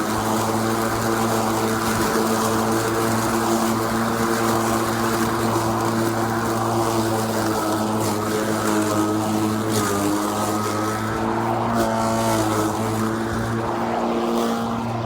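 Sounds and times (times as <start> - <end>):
electric lawn mower humming: 0.0 - 15.0.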